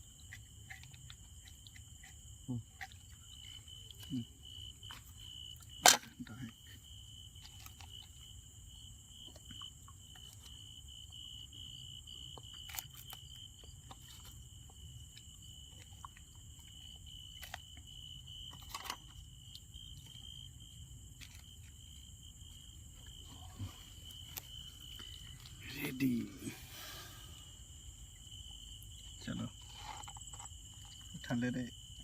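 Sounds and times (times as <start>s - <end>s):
insect trill: 0.0s - 32.0s
person chewing crunchy food: 0.1s - 5.8s, 9.1s - 31.2s.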